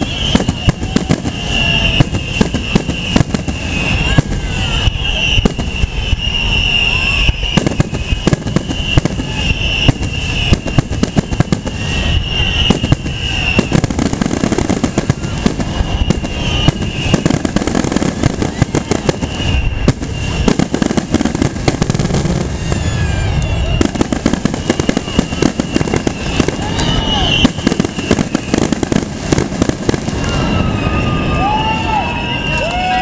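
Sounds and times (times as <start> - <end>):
firework shell bursts and crackling: 0.0 - 30.6
high firework whistle: 0.0 - 33.0.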